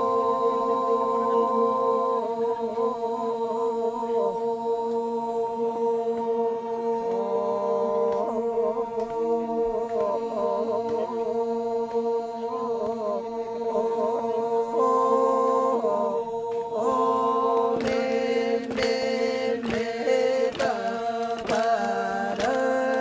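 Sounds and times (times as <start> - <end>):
men chanting: 0.0 - 23.0.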